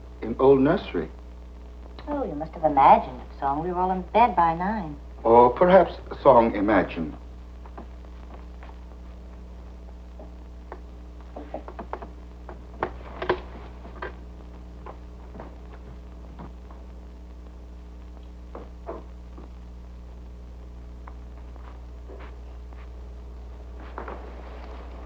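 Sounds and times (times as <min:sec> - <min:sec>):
low film soundtrack hum: 0:00.0 - 0:25.0.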